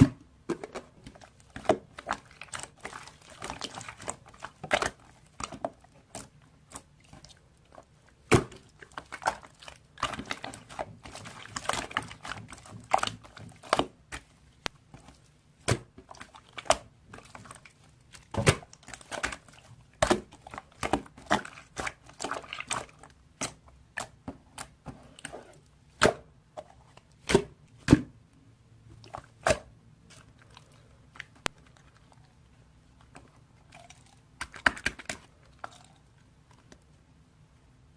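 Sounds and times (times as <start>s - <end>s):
slime squishing: 0.0s - 28.2s, 28.8s - 36.9s.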